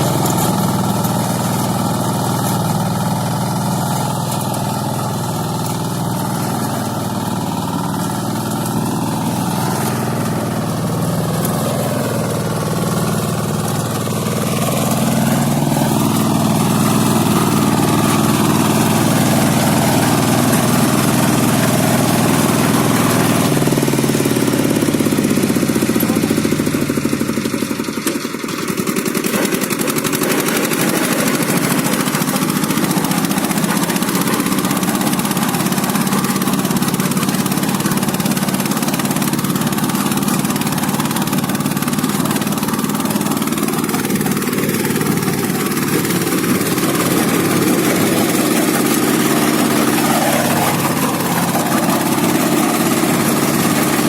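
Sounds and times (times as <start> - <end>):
rotary tiller engine running: 0.0 - 54.0.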